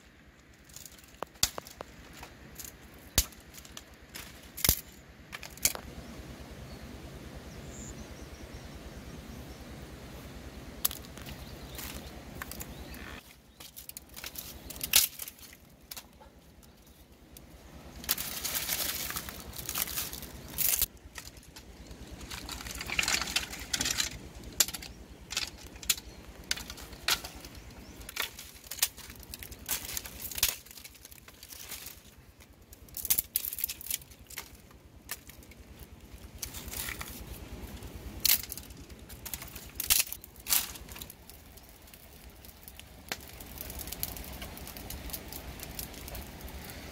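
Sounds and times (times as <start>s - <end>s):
twigs and leaves rustling: 0.0s - 6.1s, 10.0s - 46.9s
sticks snapping: 0.4s - 5.9s, 10.8s - 37.6s, 38.2s - 46.8s.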